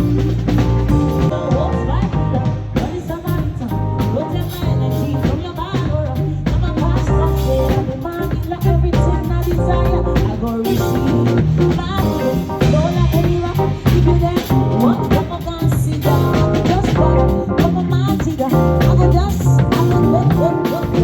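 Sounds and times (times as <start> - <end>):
drum kit beat: 0.0 - 21.0
live band playing: 0.0 - 21.0.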